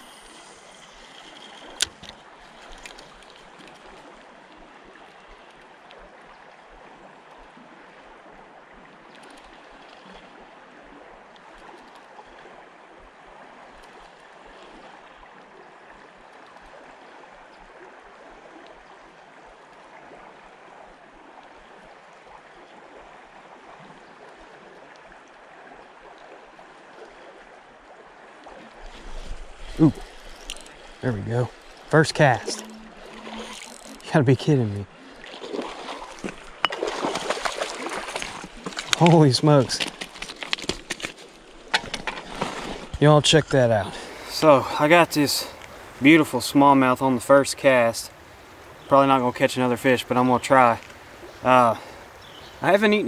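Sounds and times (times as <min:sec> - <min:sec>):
creek water flowing: 0:00.0 - 0:53.0.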